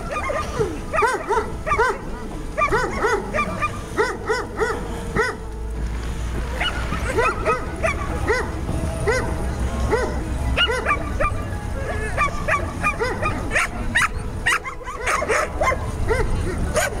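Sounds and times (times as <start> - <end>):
dog barking: 0.0 - 5.5, 6.6 - 9.3, 9.9 - 17.0.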